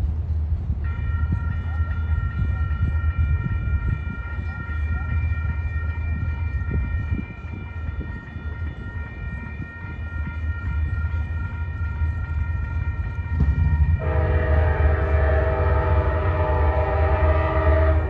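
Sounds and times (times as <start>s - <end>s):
diesel train rumble: 0.0s - 18.0s
crossing warning bell ringing: 0.8s - 18.0s.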